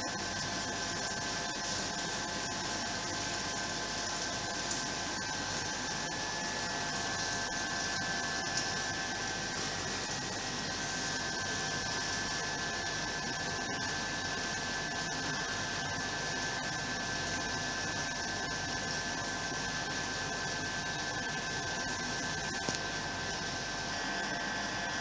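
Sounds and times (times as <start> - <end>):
aquarium pumps hissing and humming: 0.0 - 25.0
high whine: 0.0 - 25.0.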